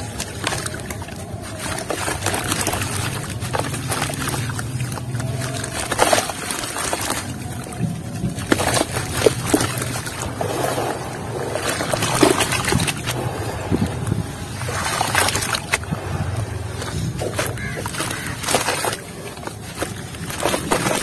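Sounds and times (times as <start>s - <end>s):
hands sloshing through water: 0.0s - 21.0s.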